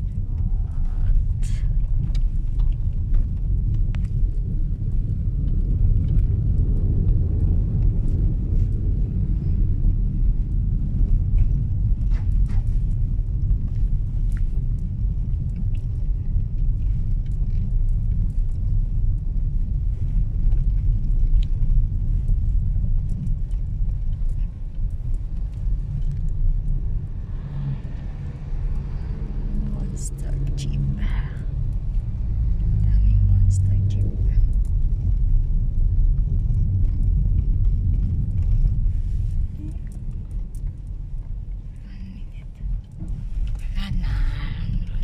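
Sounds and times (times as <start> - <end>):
car engine and tyres rumbling: 0.0 - 45.0.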